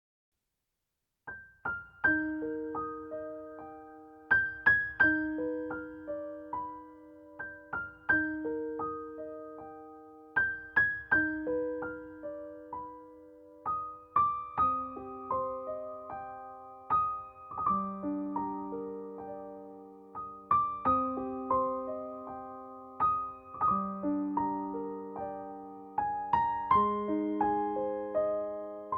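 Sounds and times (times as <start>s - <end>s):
soft solo piano music: 1.3s - 28.9s.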